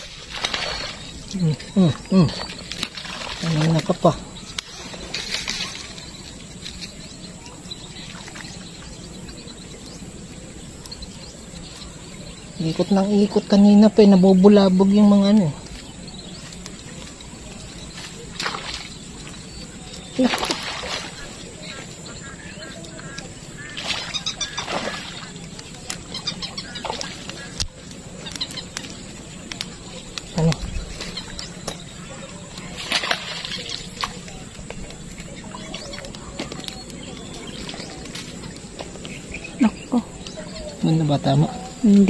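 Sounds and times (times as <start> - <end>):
faint bird chirps: 0.0 - 42.0.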